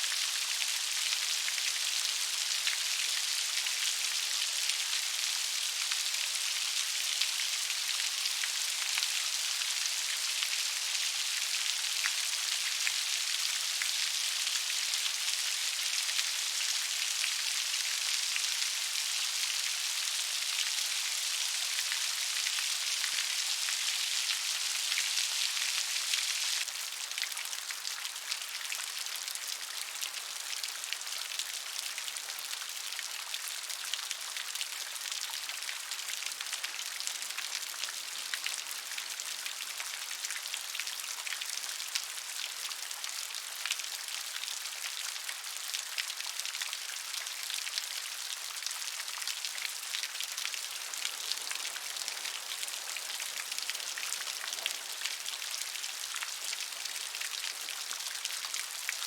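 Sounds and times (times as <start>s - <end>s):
gentle rain pattering: 0.0s - 59.0s.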